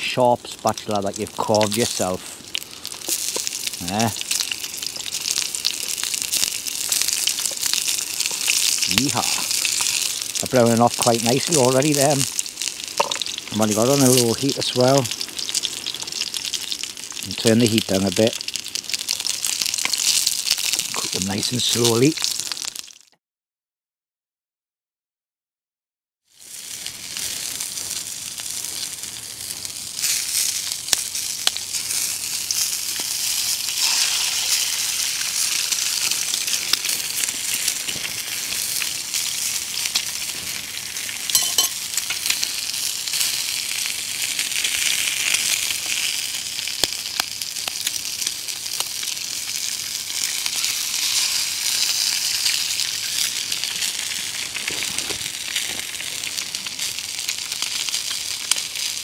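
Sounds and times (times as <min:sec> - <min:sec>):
food sizzling in hot oil: 0:00.0 - 0:23.2, 0:26.2 - 0:59.0.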